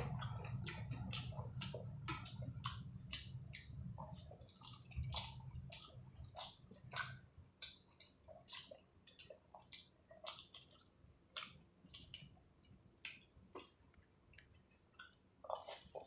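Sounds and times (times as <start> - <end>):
chewing with wet mouth clicks: 0.0 - 16.0.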